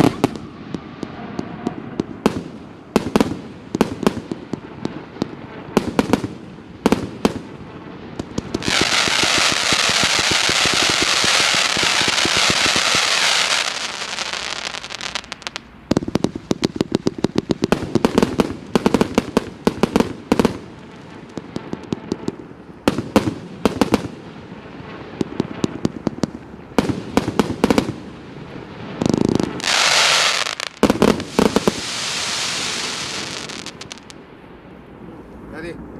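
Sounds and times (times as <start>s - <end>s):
fireworks launching and bursting: 0.0s - 34.9s
fireworks crackling: 0.0s - 35.9s.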